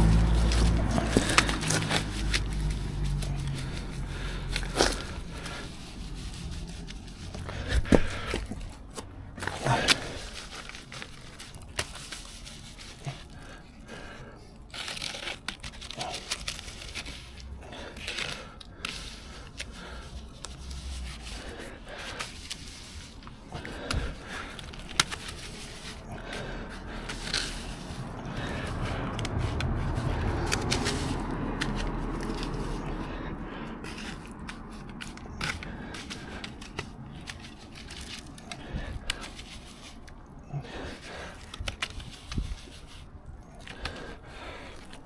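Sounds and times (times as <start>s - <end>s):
tools scraping wet concrete: 0.0s - 45.0s.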